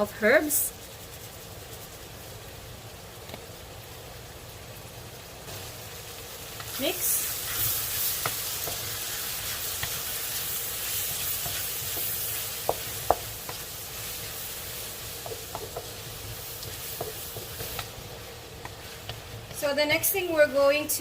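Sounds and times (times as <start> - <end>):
onions and tomatoes sizzling in oil: 0.0 - 21.0.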